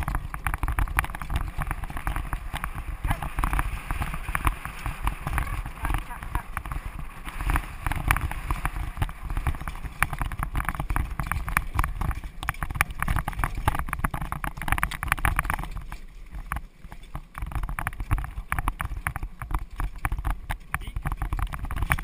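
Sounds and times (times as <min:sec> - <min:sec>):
carriage wheels rattling: 0:00.0 - 0:22.0
horse hooves clip-clopping: 0:00.0 - 0:22.0.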